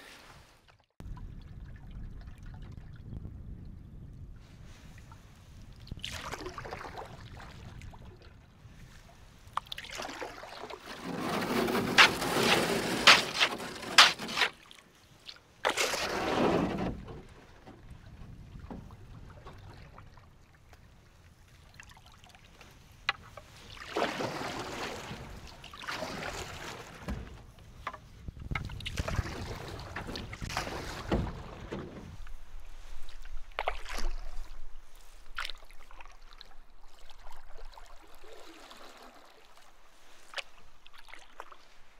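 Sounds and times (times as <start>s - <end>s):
paddle water swishing and dripping: 4.5s - 41.9s.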